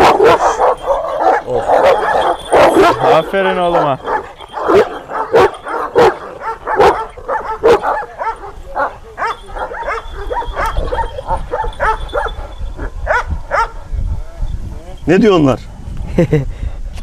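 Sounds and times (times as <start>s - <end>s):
dogs yelping: 0.0s - 13.8s
dogs barking: 0.0s - 13.9s.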